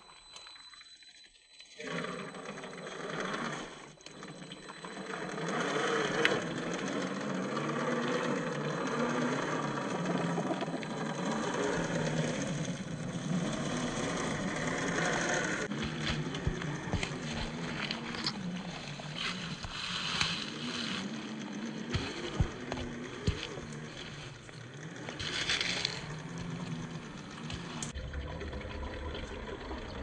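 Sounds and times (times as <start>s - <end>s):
toy car electric motor whining: 0.0s - 28.0s.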